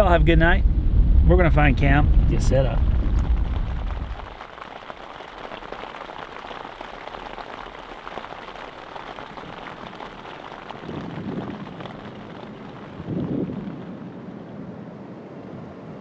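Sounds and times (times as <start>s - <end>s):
steady rain falling: 0.0s - 14.4s.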